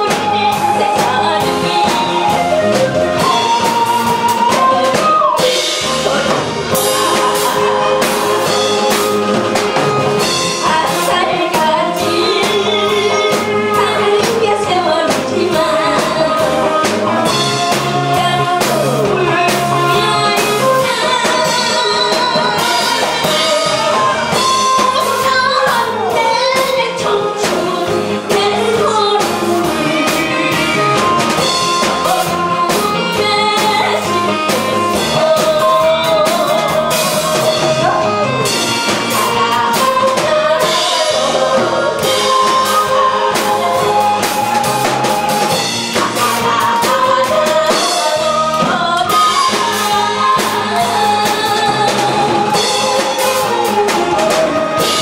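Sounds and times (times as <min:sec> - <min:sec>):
music with steady drum beat: 0:00.0 - 0:55.0
woman singing into microphone: 0:00.0 - 0:55.0.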